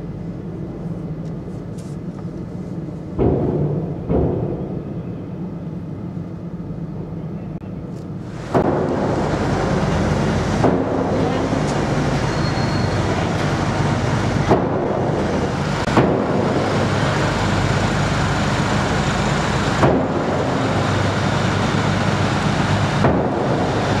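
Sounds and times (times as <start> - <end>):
engines and machinery droning: 0.0 - 24.0.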